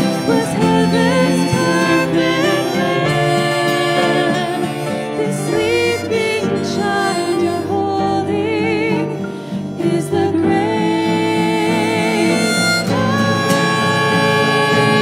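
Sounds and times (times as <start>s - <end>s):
piano cello and guitars: 0.0s - 15.0s
women singing slow song: 0.0s - 15.0s.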